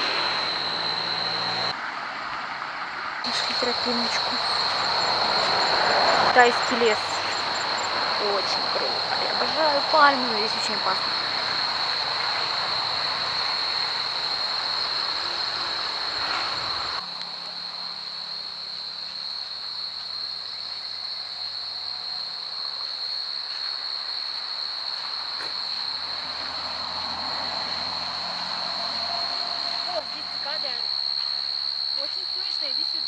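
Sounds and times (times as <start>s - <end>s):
cicadas singing: 0.0s - 1.8s, 3.2s - 33.0s.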